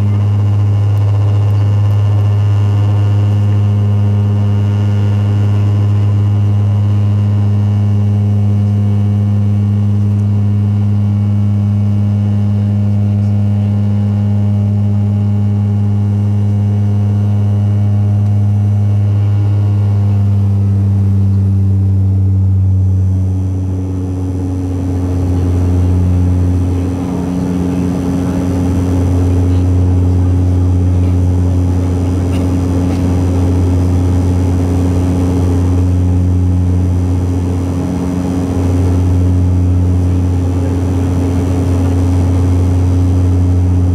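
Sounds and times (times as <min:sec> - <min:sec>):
turboprop engine drone: 0:00.0 - 0:43.9.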